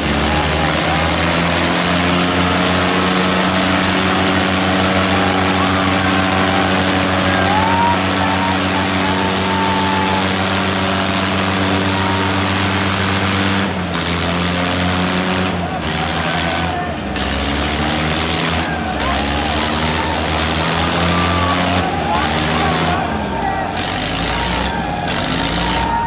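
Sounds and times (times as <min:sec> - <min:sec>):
tractor engines straining: 0:00.0 - 0:26.0.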